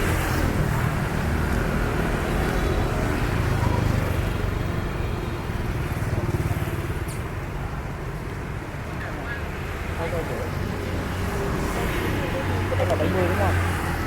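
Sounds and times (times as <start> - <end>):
motorbike engine and road rumble: 0.0 - 14.0.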